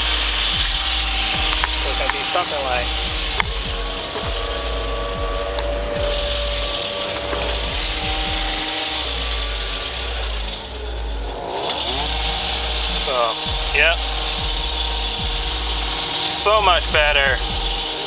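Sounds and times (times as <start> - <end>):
brake caliper tool turning: 0.0 - 18.0
low rumble: 2.8 - 17.9.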